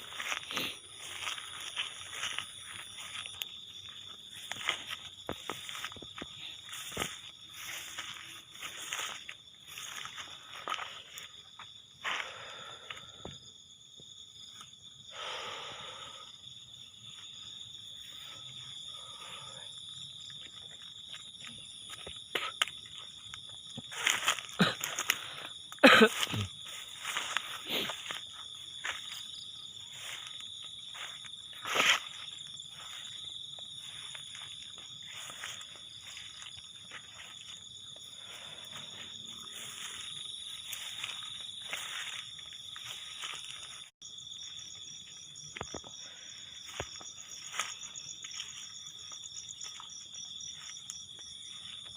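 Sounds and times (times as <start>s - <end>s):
footsteps crunching through vegetation: 0.0s - 12.7s, 20.1s - 51.9s
insect chorus chirring: 0.0s - 51.9s.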